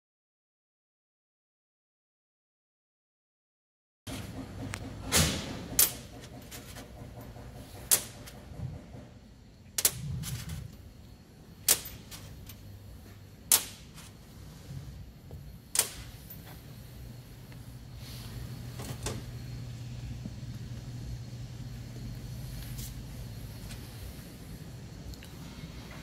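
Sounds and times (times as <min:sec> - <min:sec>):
low steady hum: 0:04.1 - 0:26.0.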